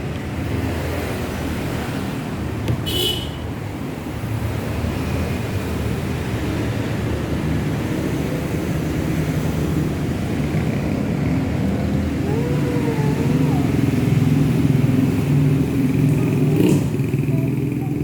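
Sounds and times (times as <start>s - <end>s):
vehicle engine noise: 0.0s - 18.0s.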